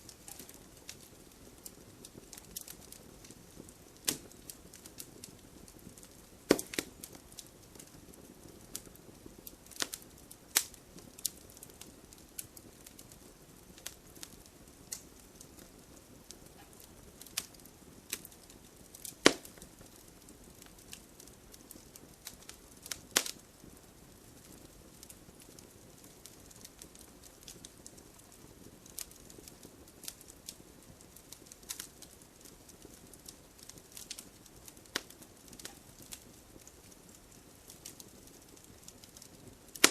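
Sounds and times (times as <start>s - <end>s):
burning logs crackling and popping: 0.0s - 39.9s
soft hiss of fire: 0.0s - 39.9s.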